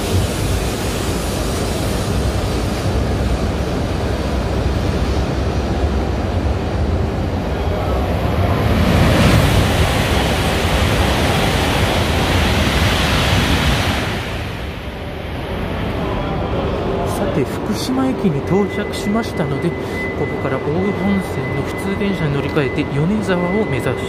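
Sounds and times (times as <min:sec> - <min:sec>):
high-speed train passing: 0:00.0 - 0:24.0
train rumbling pulling away: 0:00.0 - 0:24.0.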